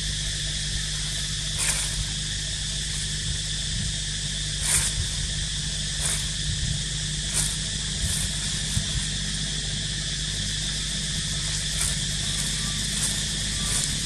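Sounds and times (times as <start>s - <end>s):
hiss and low hum: 0.0s - 14.0s
insects droning: 0.0s - 14.0s.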